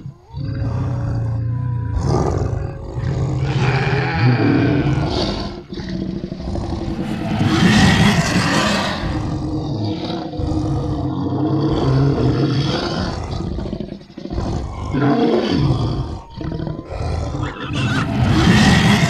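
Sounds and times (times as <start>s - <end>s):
monster growling and roaring: 0.0s - 19.0s.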